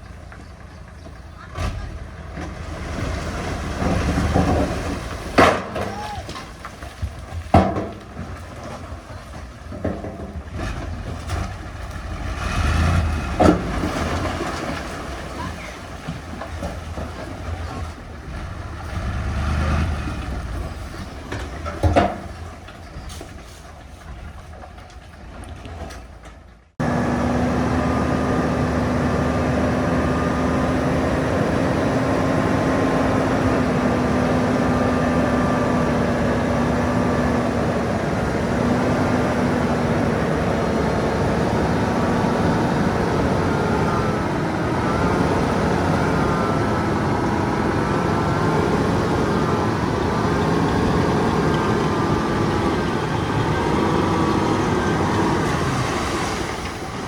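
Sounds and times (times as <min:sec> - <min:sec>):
constant engine whine: 0:00.0 - 0:57.0
diesel machinery engine: 0:00.0 - 0:57.0.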